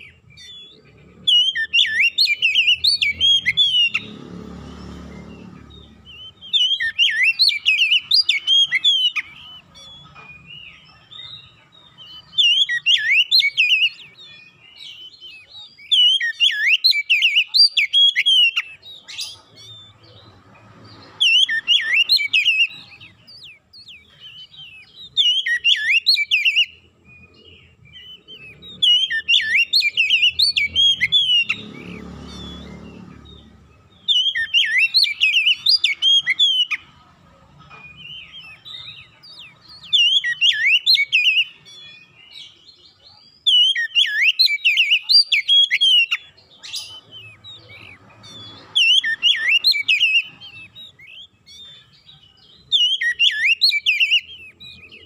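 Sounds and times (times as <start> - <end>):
bird singing chirps and whistles: 0.0 - 37.0, 37.6 - 55.0.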